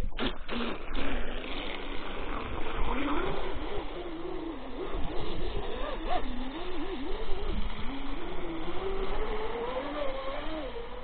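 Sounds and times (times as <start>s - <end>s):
electric motors whining: 1.8s - 11.0s.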